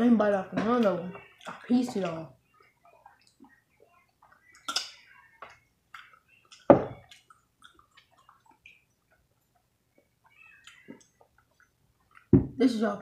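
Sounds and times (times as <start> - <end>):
wet clicks and squishes of eating: 0.6 - 12.3.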